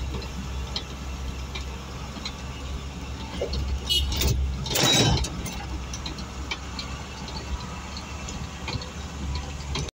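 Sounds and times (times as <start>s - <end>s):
engine and road rumble in car: 0.0s - 9.9s.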